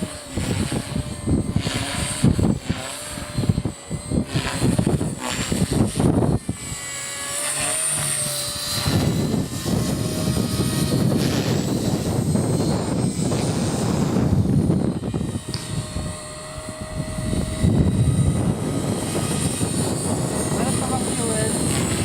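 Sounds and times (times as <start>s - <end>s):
rc helicopter motor whine: 0.0s - 22.0s
wind rumbling on microphone: 0.0s - 22.0s.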